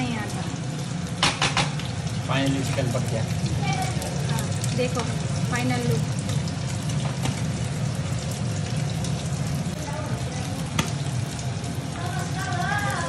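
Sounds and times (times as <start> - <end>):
curry sizzling and bubbling: 0.0 - 13.0.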